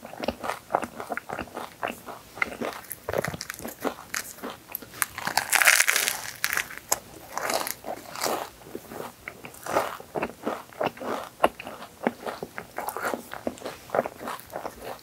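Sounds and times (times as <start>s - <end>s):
crisp crunching and chewing: 0.0s - 15.0s.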